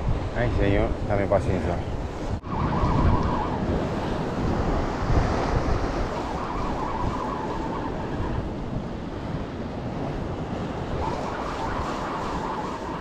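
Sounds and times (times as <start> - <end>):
sea surf on rocky shore: 0.0 - 13.0
wind buffeting microphone: 0.0 - 13.0.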